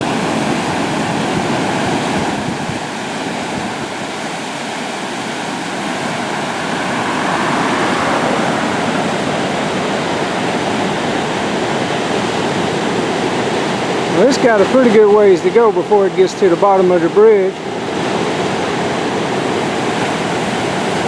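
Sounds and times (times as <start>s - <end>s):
water rushing over a dam: 0.0s - 21.0s.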